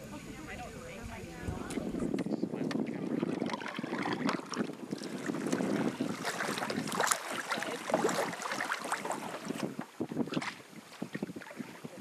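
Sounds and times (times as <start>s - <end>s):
paddles splashing in water: 0.0s - 12.0s
wind on microphone: 0.0s - 12.0s.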